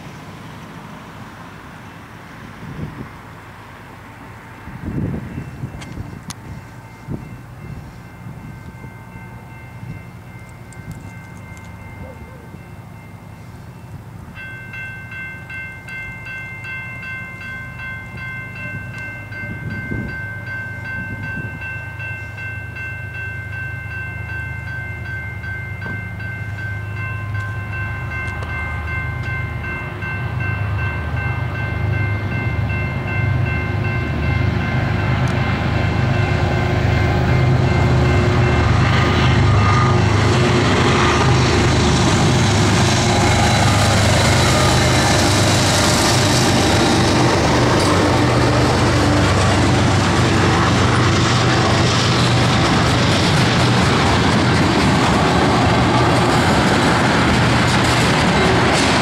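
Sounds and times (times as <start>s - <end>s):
diesel locomotive rumble: 0.0s - 59.0s.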